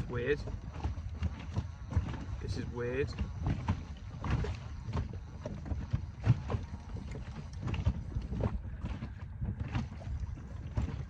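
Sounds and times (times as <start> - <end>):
low rumble of wind: 0.0 - 11.0
water around a boat: 0.0 - 11.0.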